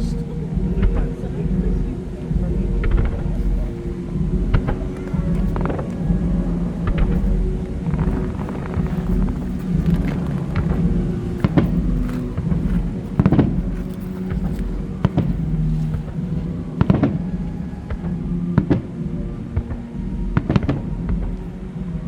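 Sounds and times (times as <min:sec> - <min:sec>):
low music: 0:00.0 - 0:22.0.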